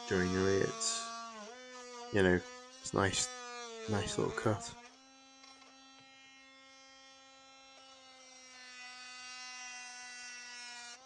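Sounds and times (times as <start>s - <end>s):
blade rasping into wood: 0.0s - 11.0s
oscillating multi-tool buzzing: 0.0s - 11.0s.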